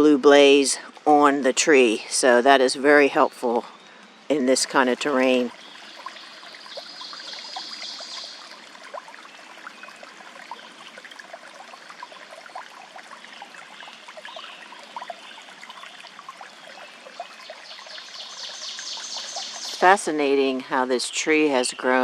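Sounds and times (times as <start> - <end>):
stream trickling and babbling: 0.0 - 22.0.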